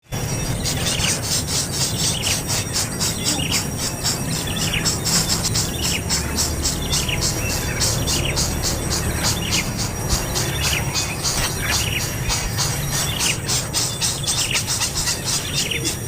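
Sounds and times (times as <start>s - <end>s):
falling bird chirps: 0.0s - 16.0s
insects chirping: 0.0s - 16.0s.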